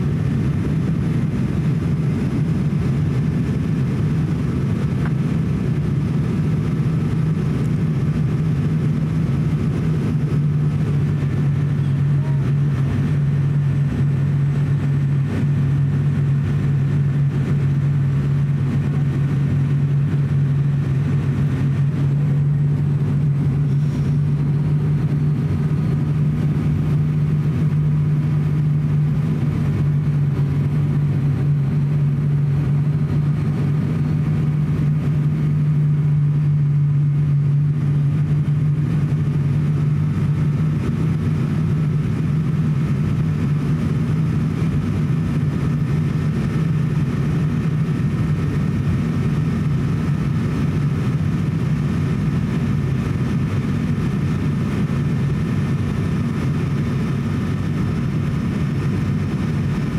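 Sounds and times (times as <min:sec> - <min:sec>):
turboprop engines droning in cabin: 0:00.0 - 0:59.9.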